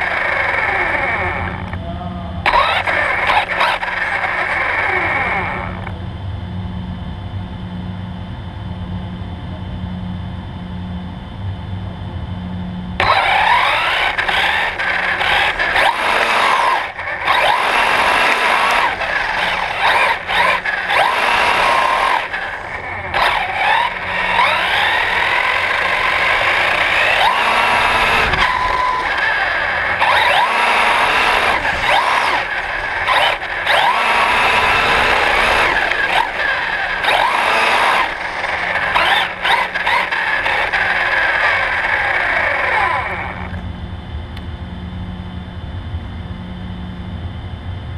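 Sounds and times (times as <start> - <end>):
motor whine rising and falling: 0.0 - 8.2, 8.8 - 47.8
electric motor low hum: 0.0 - 47.9.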